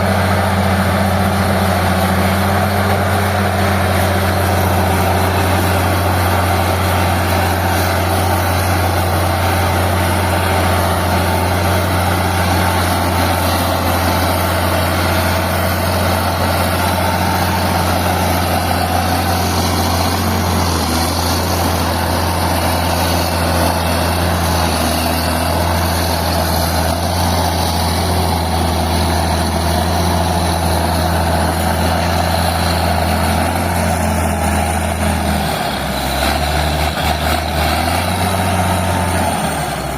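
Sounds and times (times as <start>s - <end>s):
diesel dozer engine running: 0.0s - 39.9s.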